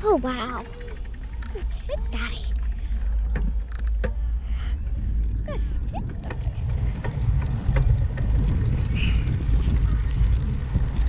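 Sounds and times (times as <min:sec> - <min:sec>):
bicycle clicks: 0:00.0 - 0:11.0
wind buffeting microphone: 0:00.0 - 0:11.0.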